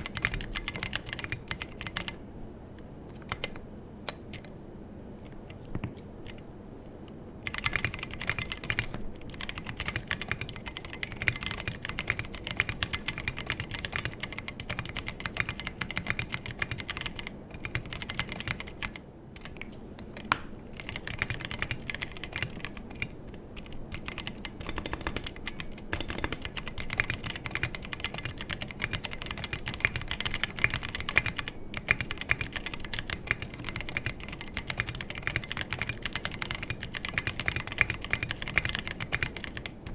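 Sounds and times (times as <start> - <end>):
mechanical keyboard typing: 0.0 - 2.2, 3.1 - 4.5, 7.4 - 39.9.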